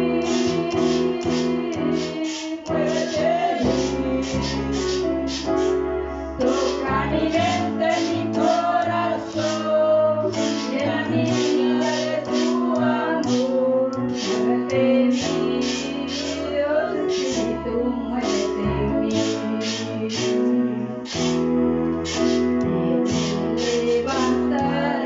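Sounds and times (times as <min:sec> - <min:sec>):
woman and children singing: 0:00.0 - 0:05.1, 0:06.4 - 0:20.7, 0:23.1 - 0:25.0
electronic keyboard music: 0:00.0 - 0:25.0.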